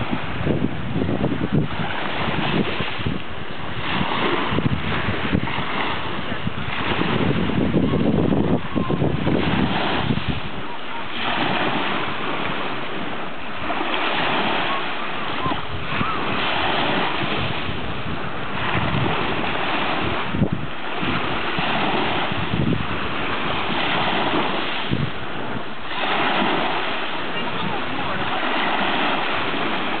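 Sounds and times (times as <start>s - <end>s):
waves washing over pebble beach: 0.0s - 30.0s
wind buffeting microphone: 0.0s - 30.0s.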